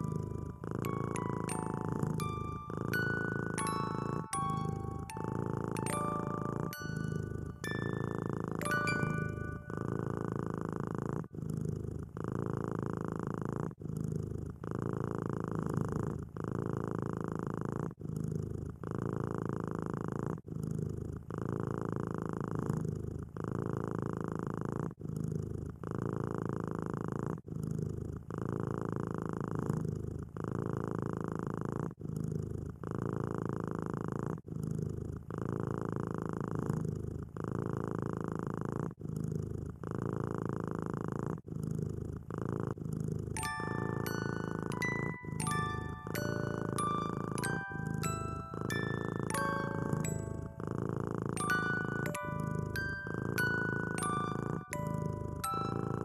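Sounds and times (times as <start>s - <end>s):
kitten purring: 0.0s - 56.0s.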